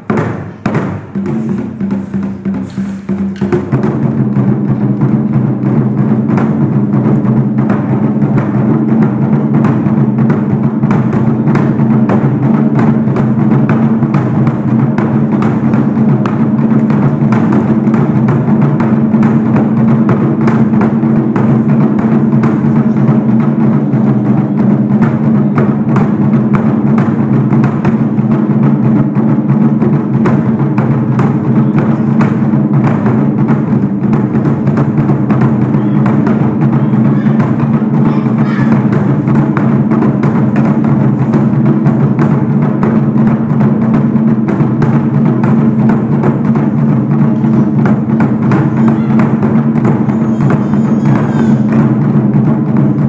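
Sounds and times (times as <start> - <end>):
large drums struck with sticks: 0.0 - 53.0.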